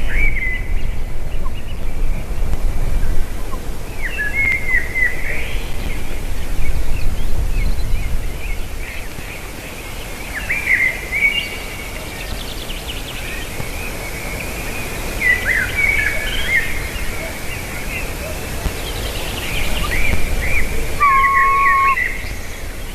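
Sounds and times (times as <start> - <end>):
bird chirping: 0.0 - 22.9
wind rumble on microphone: 0.0 - 22.9.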